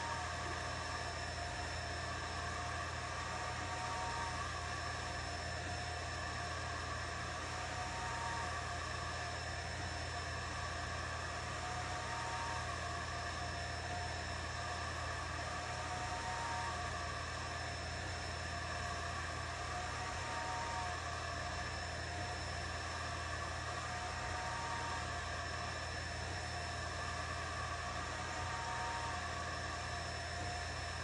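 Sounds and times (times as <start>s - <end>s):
whir of fans and motors: 0.0s - 31.0s.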